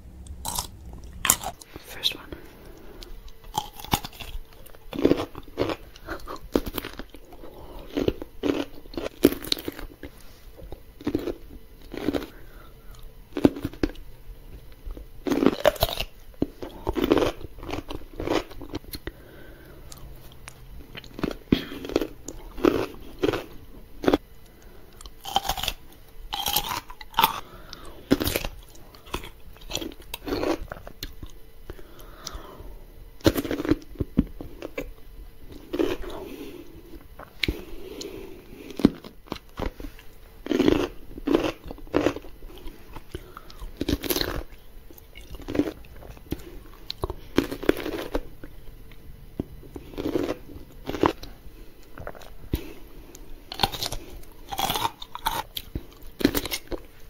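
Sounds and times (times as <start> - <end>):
crunchy chewing of pickles: 0.0 - 57.0.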